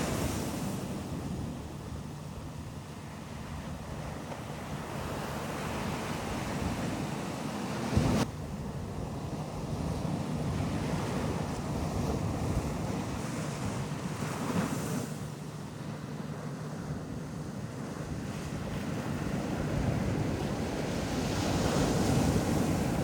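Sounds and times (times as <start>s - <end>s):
wind buffeting microphone: 0.0s - 15.4s, 16.2s - 23.0s
ocean surf washing onto beach: 0.0s - 23.0s.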